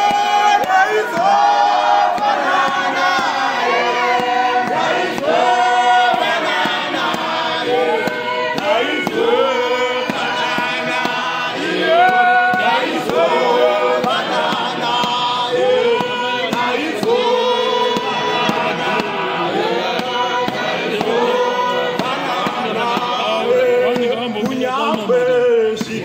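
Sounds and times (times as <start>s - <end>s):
men singing a hymn in harmony: 0.0s - 26.0s.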